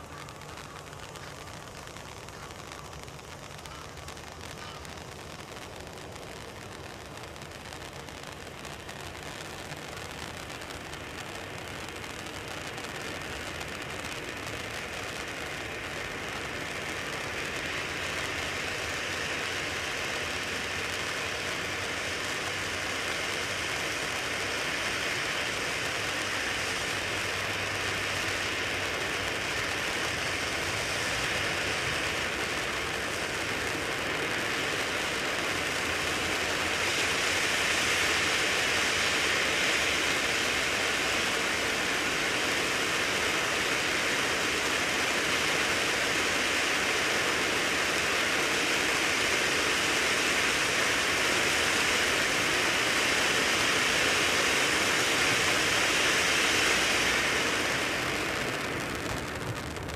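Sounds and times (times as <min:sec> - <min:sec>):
firework fountain hissing: 0:00.0 - 0:59.9.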